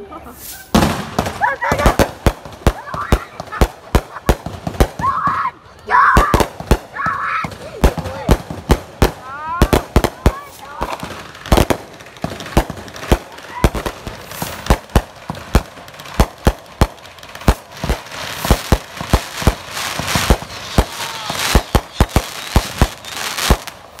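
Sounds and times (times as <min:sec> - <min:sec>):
crackling hiss of fireworks: 0:00.2 - 0:24.0
fireworks bursting: 0:00.2 - 0:24.0.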